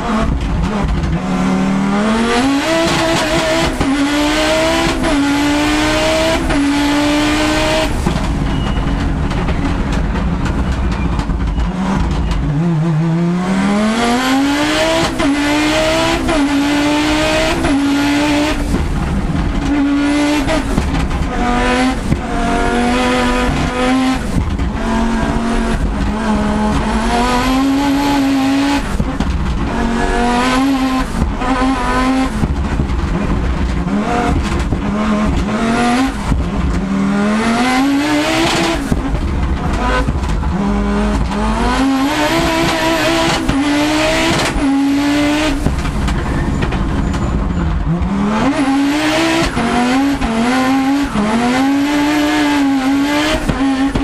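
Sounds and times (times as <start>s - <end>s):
car engine revving hard: 0.0s - 8.5s, 11.6s - 54.0s.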